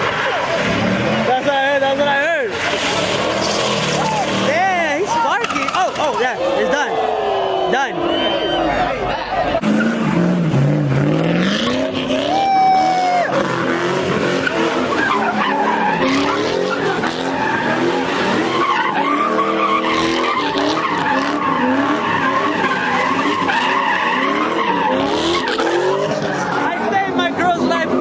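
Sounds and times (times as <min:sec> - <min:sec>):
car engine revving hard: 0:00.0 - 0:05.8, 0:09.5 - 0:28.0
tires skidding and squealing: 0:00.0 - 0:28.0.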